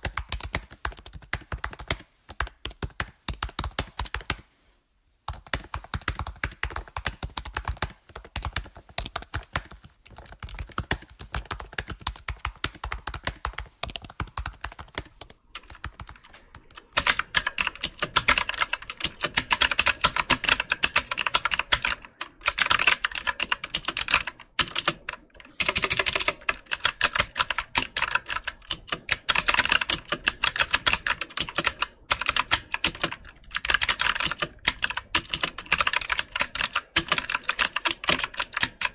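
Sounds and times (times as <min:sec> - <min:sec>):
computer keyboard typing: 0:00.0 - 0:04.5, 0:05.3 - 0:38.9.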